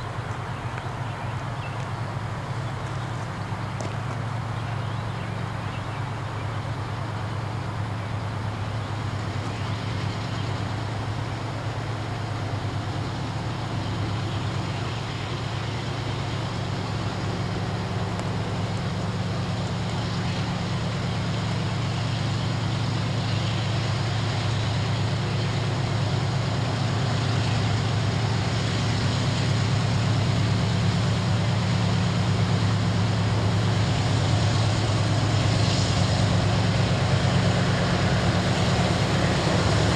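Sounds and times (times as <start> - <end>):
distant diesel locomotive drone: 0.0 - 39.9.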